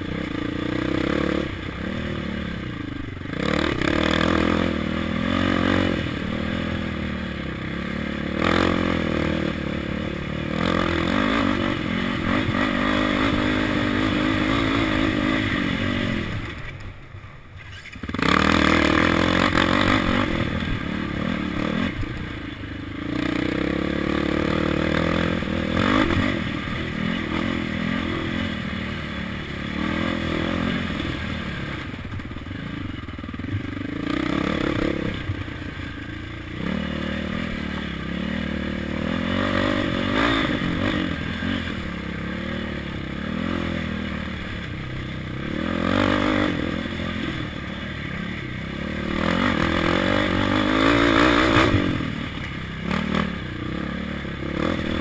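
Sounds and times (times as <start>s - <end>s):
quad engine revving: 0.0s - 16.6s, 17.8s - 55.0s.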